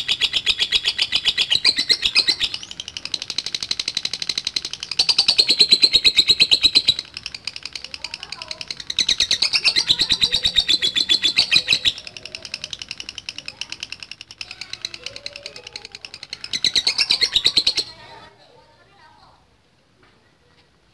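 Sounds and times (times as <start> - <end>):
lovebird rattling chatter: 0.0 - 18.3.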